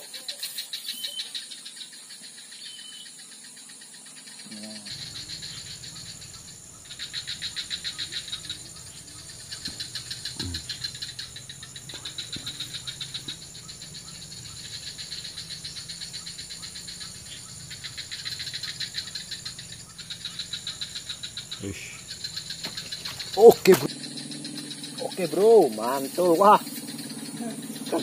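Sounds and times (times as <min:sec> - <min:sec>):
insect pulsing trill: 0:00.0 - 0:28.0
insects buzzing: 0:00.0 - 0:28.0.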